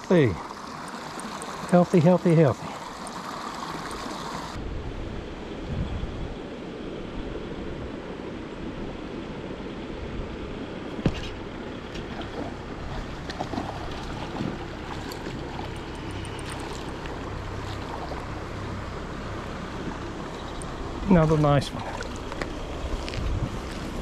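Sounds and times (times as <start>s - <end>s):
creek water flowing: 0.0s - 4.6s, 8.0s - 24.0s.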